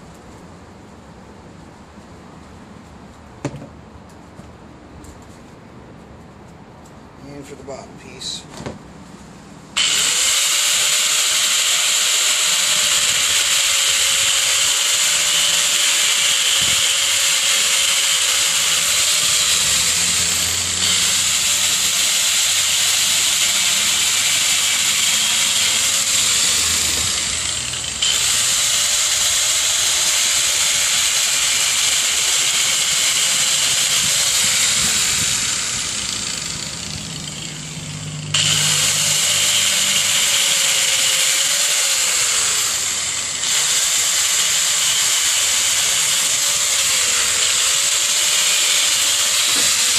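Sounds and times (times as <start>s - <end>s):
angle grinder cutting plastic pipe: 9.8s - 49.9s.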